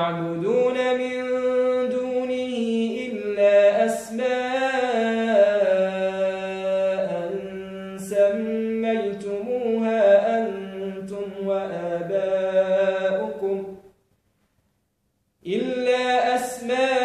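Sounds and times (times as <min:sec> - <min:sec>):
man chanting melodically: 0:00.0 - 0:13.8, 0:15.4 - 0:17.0.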